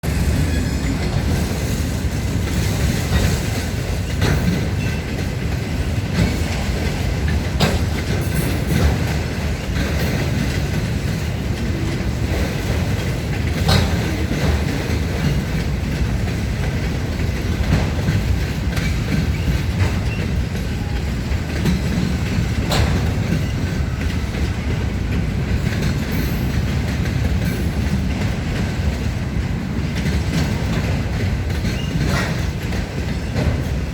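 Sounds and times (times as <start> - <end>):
freight cars rumbling: 0.0 - 33.9
wheels clacking over rail joints: 0.0 - 33.9.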